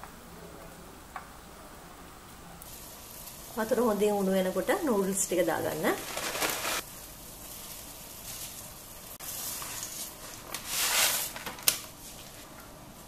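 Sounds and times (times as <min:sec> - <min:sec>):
water boiling in pot: 0:00.0 - 0:13.0.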